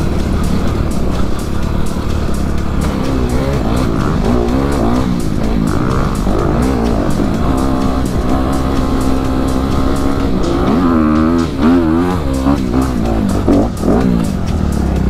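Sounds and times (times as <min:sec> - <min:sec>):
dirt bike engine revving: 0:00.0 - 0:15.0
music with steady beat: 0:00.0 - 0:15.0.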